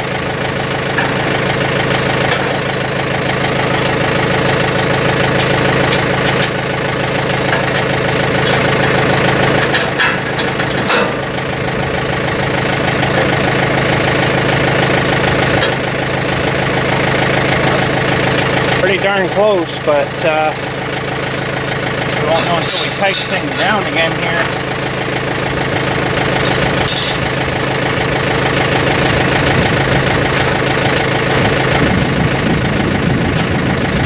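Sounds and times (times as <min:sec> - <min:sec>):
tractor engine idling: 0:00.0 - 0:34.0.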